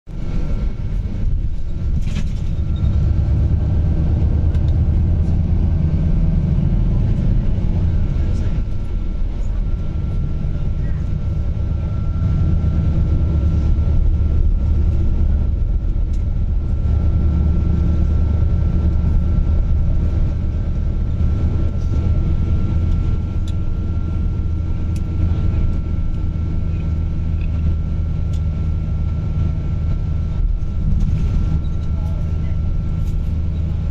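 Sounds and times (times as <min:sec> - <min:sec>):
vehicle cabin rumble: 0:00.1 - 0:33.9.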